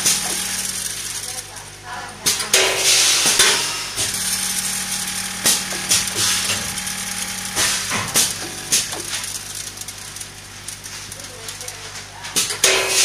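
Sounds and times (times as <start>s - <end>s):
packing machine hum and rattle: 0.0s - 13.0s
machine clacks: 2.2s - 13.0s.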